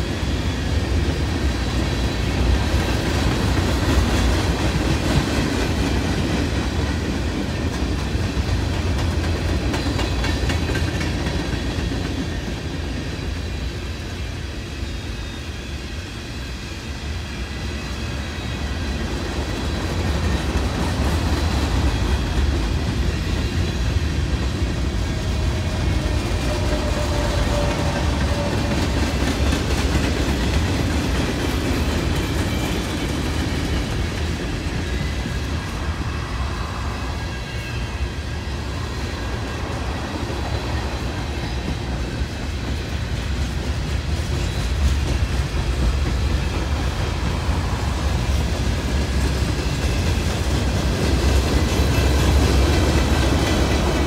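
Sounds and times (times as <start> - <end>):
train rolling on rails: 0.0 - 54.0.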